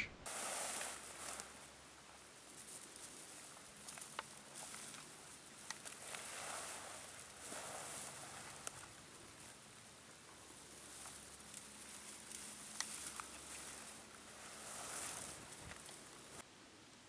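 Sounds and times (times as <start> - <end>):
dry grass rustling: 0.2 - 16.5.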